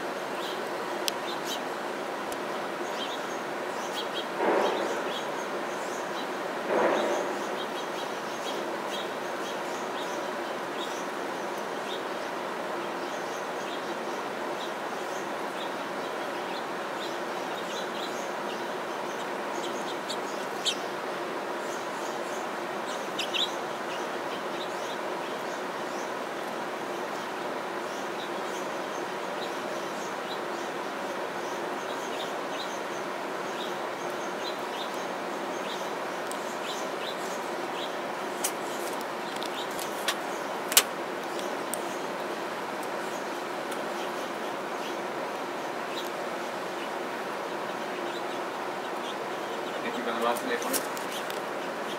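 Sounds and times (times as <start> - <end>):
steady background hiss: 0.0 - 51.9
finches chirping: 0.3 - 1.7, 2.4 - 51.9.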